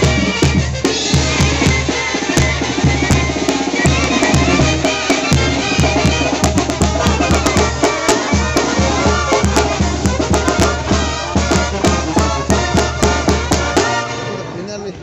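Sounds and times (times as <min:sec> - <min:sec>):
bass drum beat: 0:00.0 - 0:14.1
brass band playing: 0:00.0 - 0:14.9.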